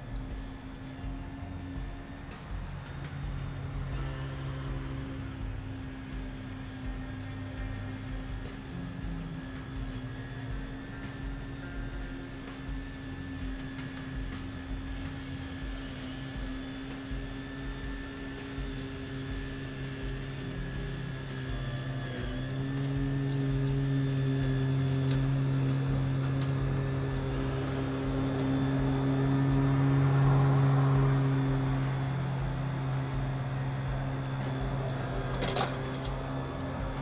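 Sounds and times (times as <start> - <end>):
electric lawn mower humming: 0.0 - 37.0.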